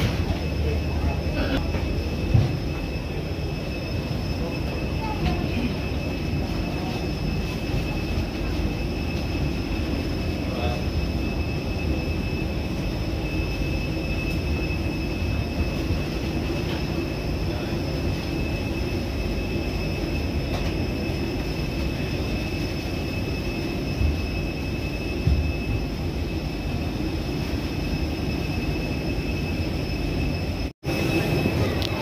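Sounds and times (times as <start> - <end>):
jet airliner rumble and whine: 0.0 - 32.0.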